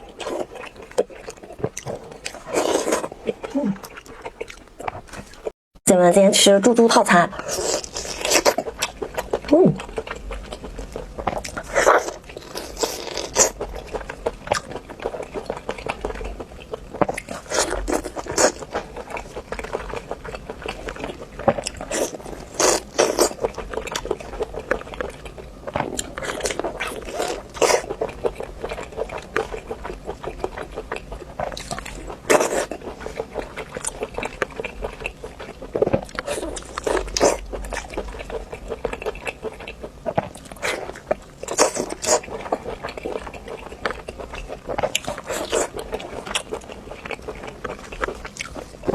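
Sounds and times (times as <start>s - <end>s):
person chewing crunchy food: 0.0s - 5.6s, 7.3s - 48.9s.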